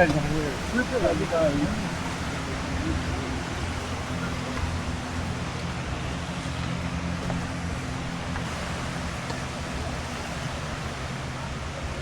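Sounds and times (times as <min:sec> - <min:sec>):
motor engine humming: 0:00.0 - 0:12.0
surf-like noise: 0:00.0 - 0:12.0.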